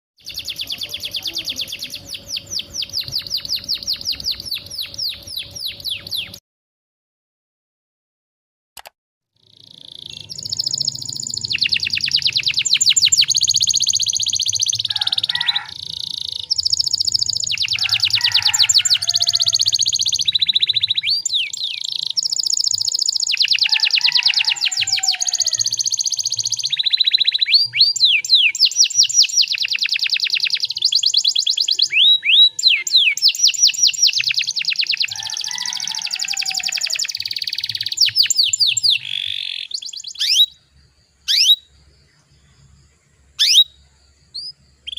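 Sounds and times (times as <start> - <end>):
canary singing trills: 0.2 - 6.4, 9.4 - 44.9.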